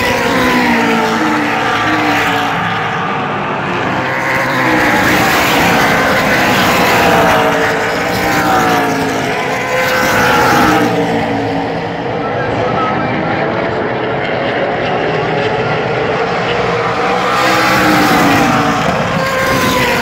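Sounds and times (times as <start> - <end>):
race car engines passing: 0.0 - 20.0.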